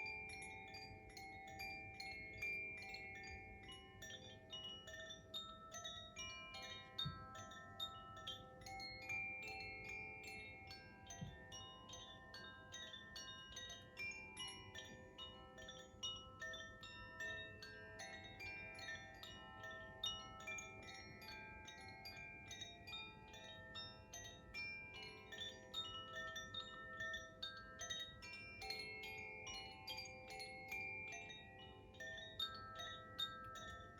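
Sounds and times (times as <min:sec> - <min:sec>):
wind chime ringing: 0:00.0 - 0:33.9.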